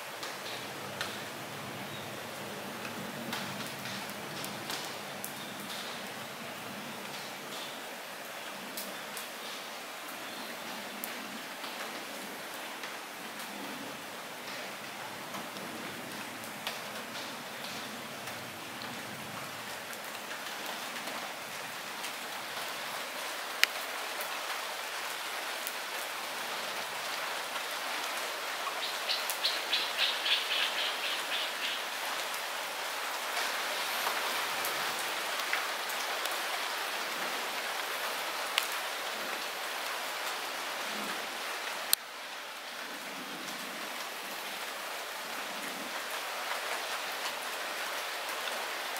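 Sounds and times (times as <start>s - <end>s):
light rain on foliage: 0.0s - 48.9s.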